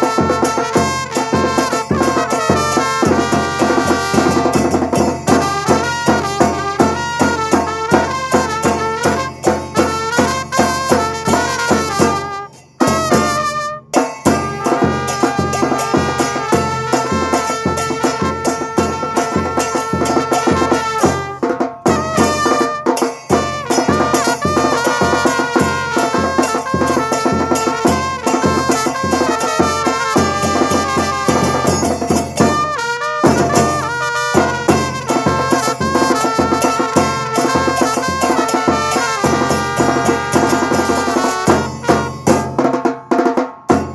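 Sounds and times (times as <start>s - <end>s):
horn-like melody: 0.0s - 42.6s
percussion group drumming: 0.0s - 43.9s.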